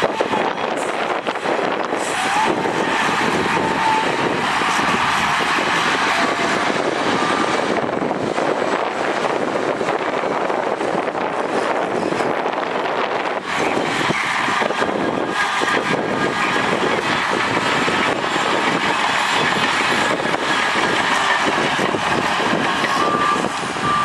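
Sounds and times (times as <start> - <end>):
heavy machinery running: 0.0 - 24.0.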